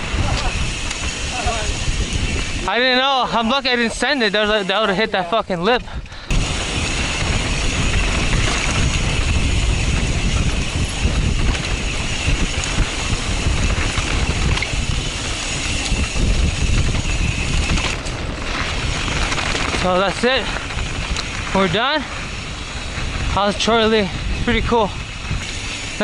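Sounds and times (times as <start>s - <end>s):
bike tyres rolling over dirt: 0.0s - 26.0s
wind rushing over microphone: 0.0s - 26.0s.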